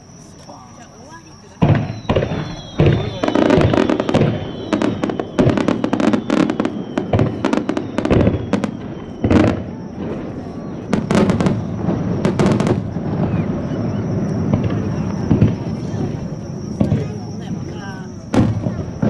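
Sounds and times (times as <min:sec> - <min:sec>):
fireworks cracks and booms: 0:01.6 - 0:19.0.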